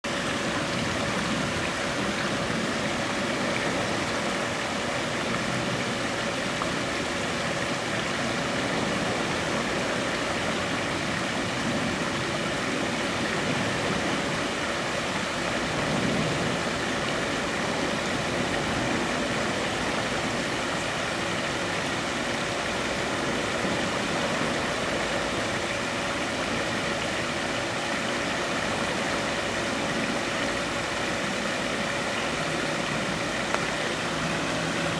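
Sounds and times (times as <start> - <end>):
steady wash of noise: 0.0 - 34.9
constant low hum: 0.1 - 34.9.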